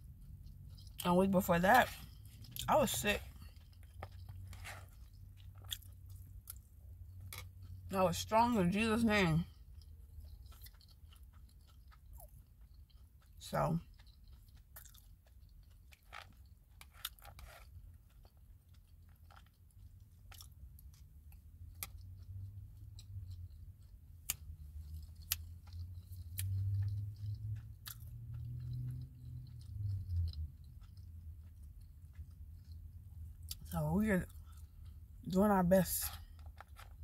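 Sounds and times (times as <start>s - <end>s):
chewing food: 0.0s - 37.0s.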